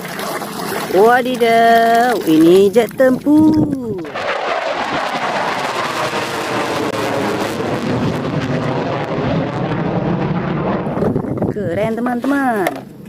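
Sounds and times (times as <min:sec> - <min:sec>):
jet engine rushing: 0:00.0 - 0:12.2.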